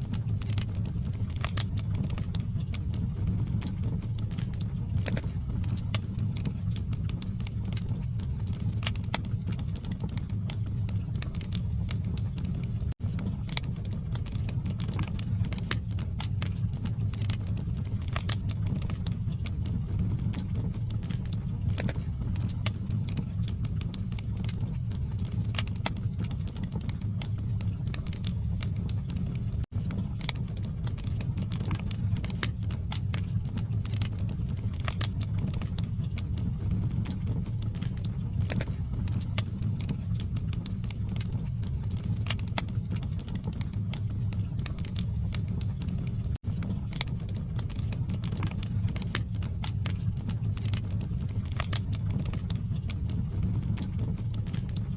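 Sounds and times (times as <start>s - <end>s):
fire rumbling: 0.0s - 54.9s
logs crackling and popping: 0.0s - 54.9s.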